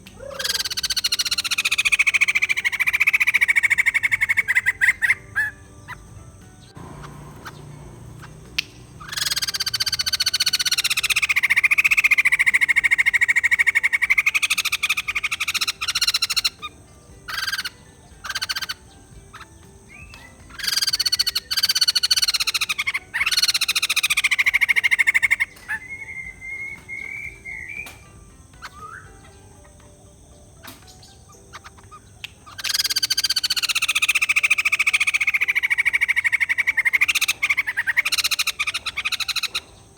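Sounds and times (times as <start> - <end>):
bird wavering whistle: 0.2 - 29.9, 30.6 - 39.9
bird cackling chatter: 0.2 - 39.9.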